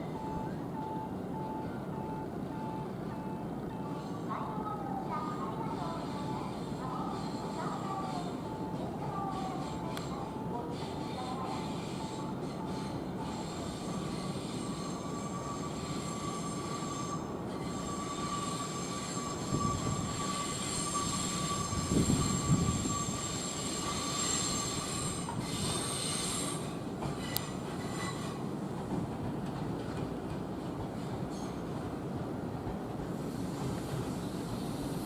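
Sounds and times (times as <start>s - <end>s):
train rumble: 0.0s - 35.0s
train wheels squealing on rails: 0.0s - 35.0s.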